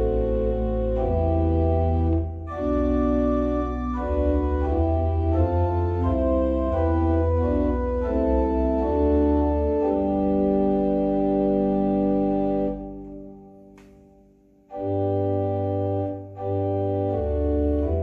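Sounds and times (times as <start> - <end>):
organ playing a hymn: 0.0 - 18.0.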